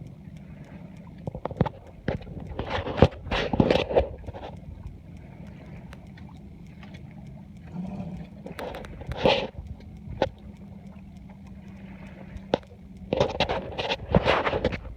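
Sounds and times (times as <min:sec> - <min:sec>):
rush of wind and water: 0:00.0 - 0:14.9.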